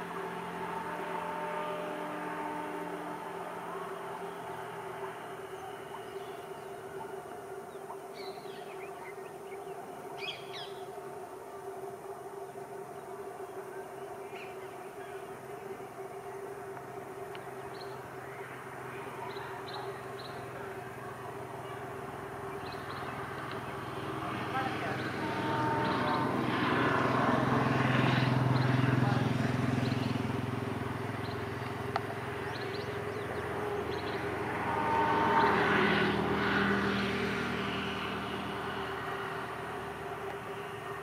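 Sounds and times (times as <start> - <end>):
birds chirping: 0.0 - 26.6, 28.0 - 37.0
distant electric train hum: 0.0 - 41.0.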